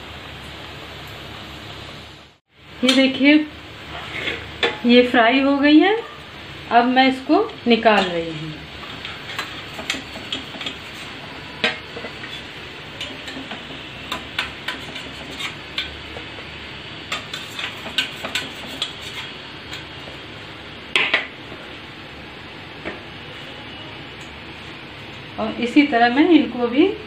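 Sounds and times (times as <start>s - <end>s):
frying oil hissing: 0.0s - 27.0s.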